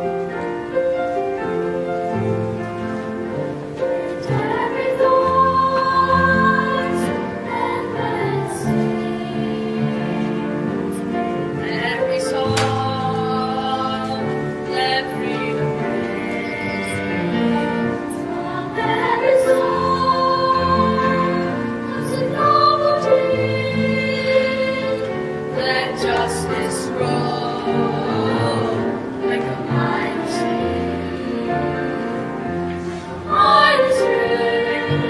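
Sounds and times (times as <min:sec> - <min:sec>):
choir singing long held notes: 0:02.1 - 0:35.0.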